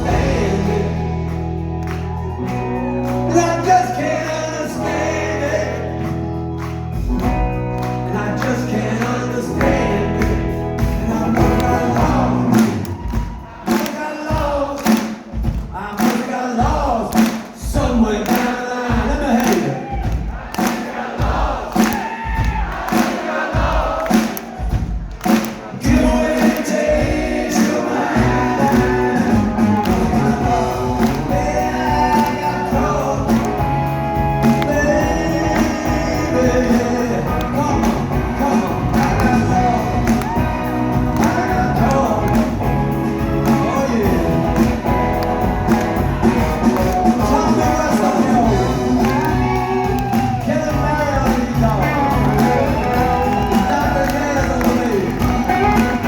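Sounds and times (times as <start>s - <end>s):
crowd cheering: 0.0s - 17.2s, 18.3s - 56.0s
live rock band with singer: 0.0s - 56.0s.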